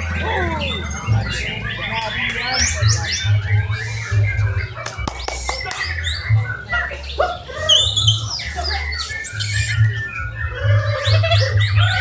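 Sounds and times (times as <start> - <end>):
birds singing in chorus: 0.0 - 12.0.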